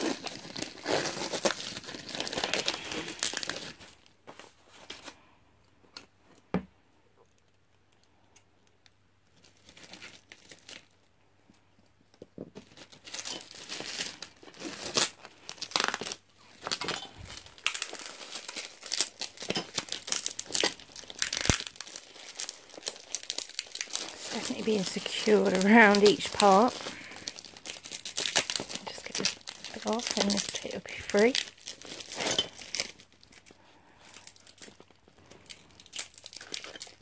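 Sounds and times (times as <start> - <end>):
plastic packaging crinkling and tearing: 0.0 - 5.3, 8.8 - 11.1, 12.0 - 37.0.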